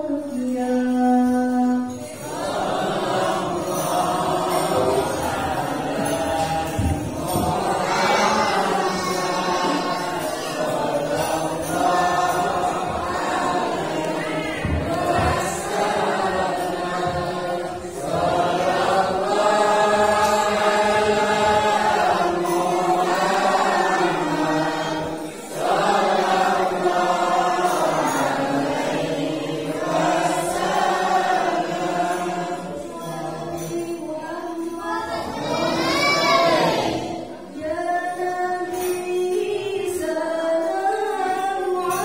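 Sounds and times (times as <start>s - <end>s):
children chanting in unison: 2.0s - 33.8s, 34.6s - 37.7s.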